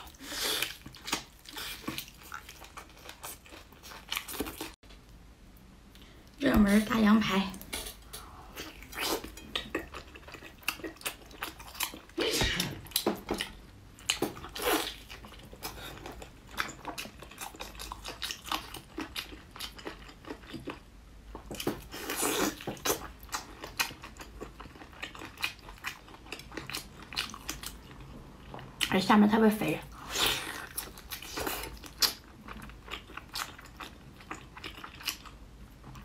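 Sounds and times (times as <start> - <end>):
person chewing meat: 0.0 - 4.8, 8.5 - 28.9, 29.9 - 36.0.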